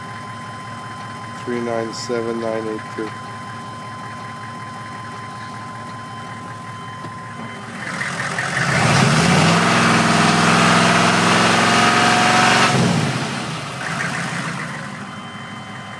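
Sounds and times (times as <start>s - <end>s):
diesel engine idling and revving: 0.0s - 15.9s.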